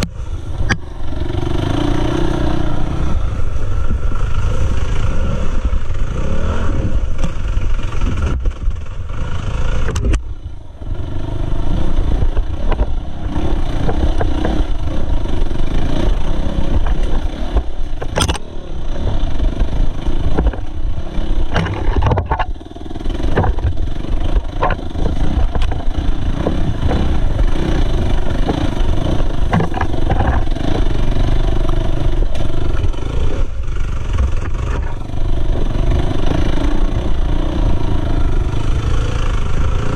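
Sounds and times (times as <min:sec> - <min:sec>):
dirt bike engine revving: 0:00.0 - 0:10.0, 0:10.8 - 0:39.9.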